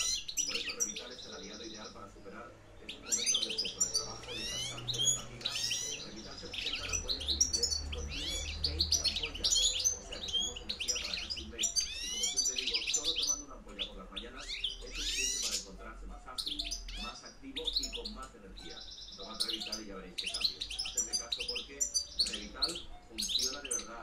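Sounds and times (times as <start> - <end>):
goldfinch chirping: 0.0 - 24.0.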